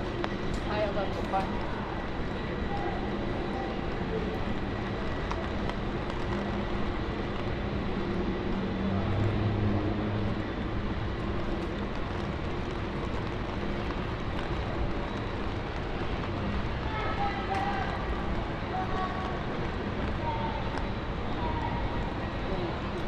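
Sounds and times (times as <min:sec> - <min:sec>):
hum of street traffic: 0:00.0 - 0:23.0.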